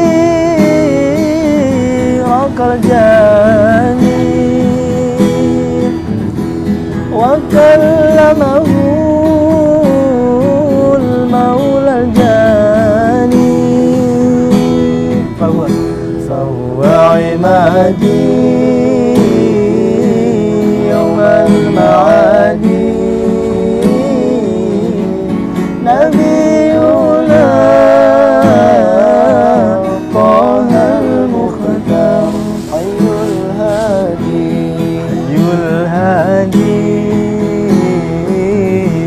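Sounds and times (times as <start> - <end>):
person singing with vibrato: 0.0 - 39.0
strummed acoustic guitar: 0.0 - 39.0.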